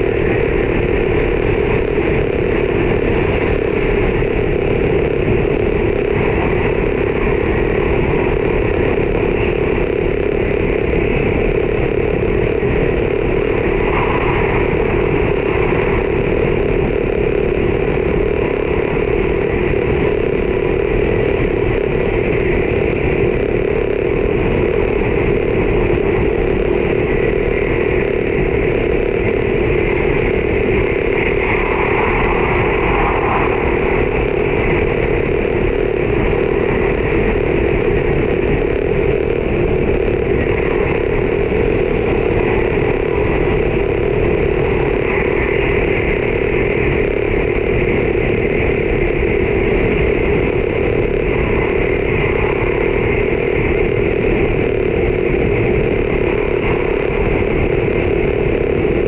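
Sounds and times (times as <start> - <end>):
high-speed train running rumble: 0.0 - 59.0.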